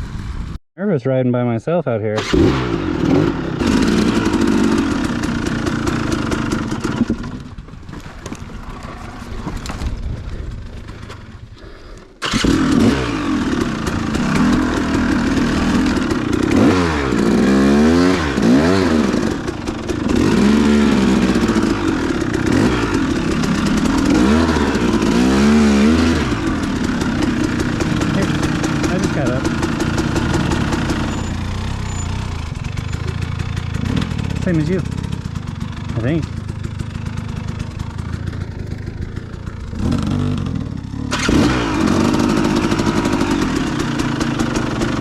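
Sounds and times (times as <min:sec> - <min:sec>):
dirt bike engine revving: 0:02.2 - 0:45.0.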